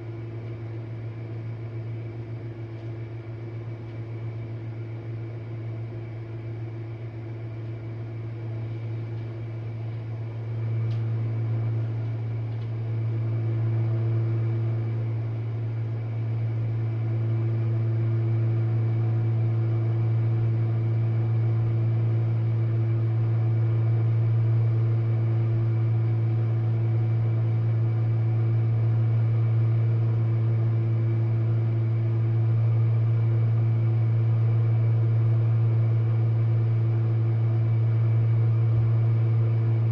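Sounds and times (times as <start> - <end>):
dishwasher motor hum: 0.0 - 39.9.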